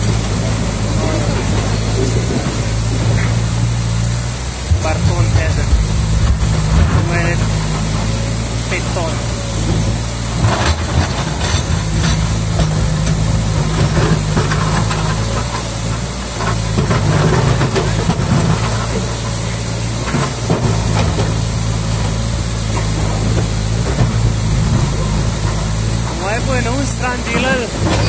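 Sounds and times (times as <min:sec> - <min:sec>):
excavator diesel engine: 0:00.0 - 0:28.0
fast-flowing water rushing: 0:00.0 - 0:28.0.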